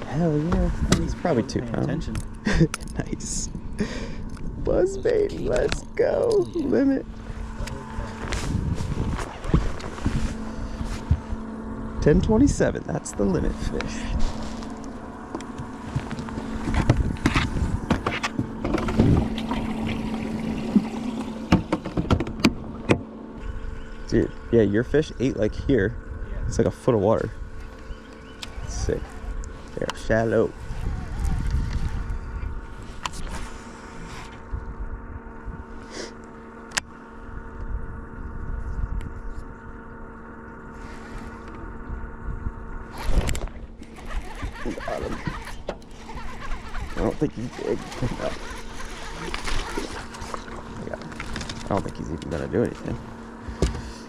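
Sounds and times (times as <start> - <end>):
wind rumbling on microphone: 0.0 - 2.4, 3.0 - 24.5, 25.1 - 35.8, 37.2 - 53.9
electric motor hum: 0.0 - 54.0.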